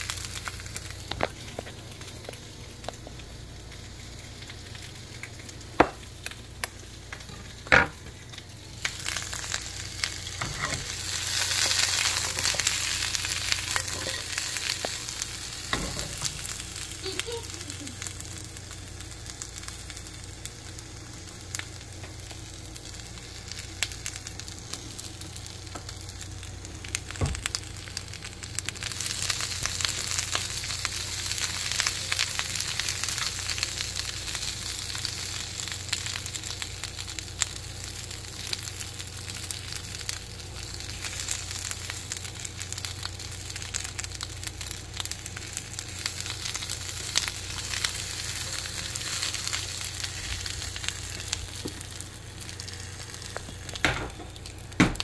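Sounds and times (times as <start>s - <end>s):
onion sizzling in a wok: 0.0s - 55.0s.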